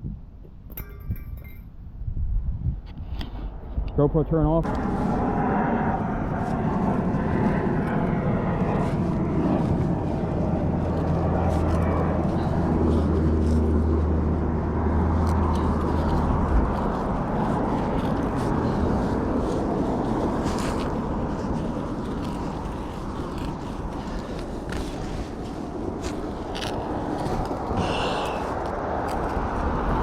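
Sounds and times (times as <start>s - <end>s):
low motor hum: 4.6s - 30.0s.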